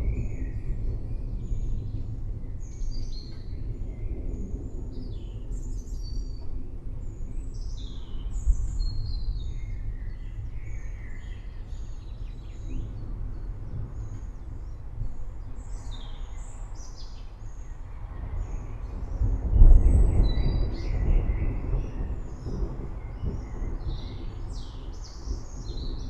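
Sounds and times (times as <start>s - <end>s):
distant thunder rumble: 0.0s - 26.0s
songbirds chirping: 0.0s - 26.0s.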